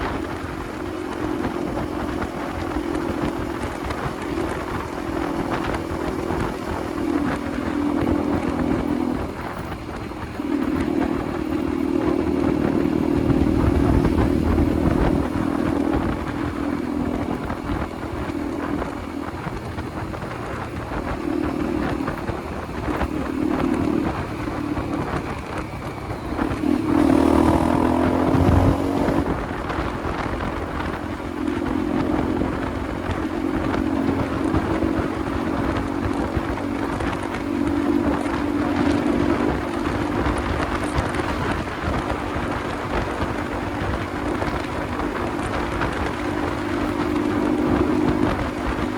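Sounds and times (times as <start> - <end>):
motorcycle engine running: 0.0 - 48.9
wind rumble on microphone: 0.0 - 48.9.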